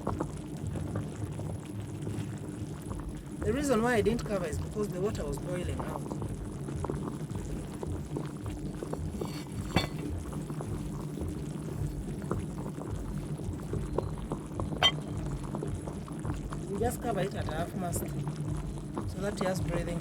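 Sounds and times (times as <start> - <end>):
water boiling and bubbling: 0.0 - 20.0.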